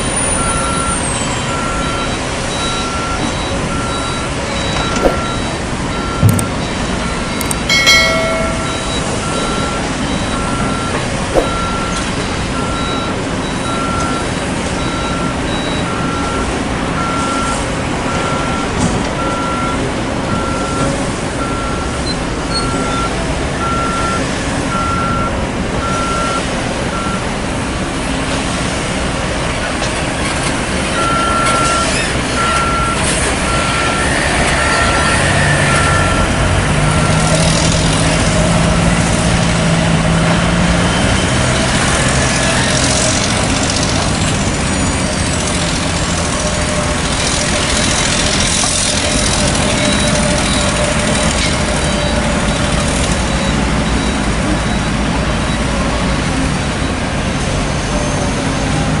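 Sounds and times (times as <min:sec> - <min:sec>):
truck reversing alarm beeping: 0:00.0 - 0:27.4, 0:30.3 - 0:58.9
truck engines running: 0:00.0 - 0:59.0.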